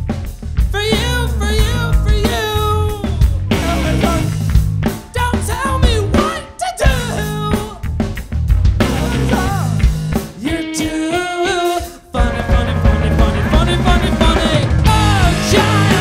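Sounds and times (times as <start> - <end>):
distorted electric guitars: 0.0 - 16.0
drum kit: 0.0 - 16.0
person singing lead vocal: 0.7 - 7.9, 8.8 - 16.0.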